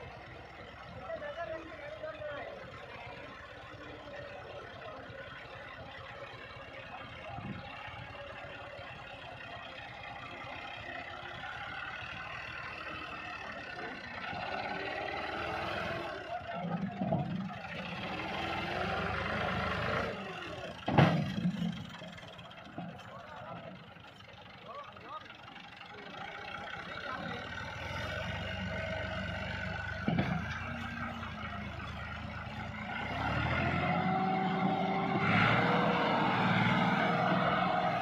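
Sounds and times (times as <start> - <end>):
tractor diesel engine labouring: 0.0 - 38.0.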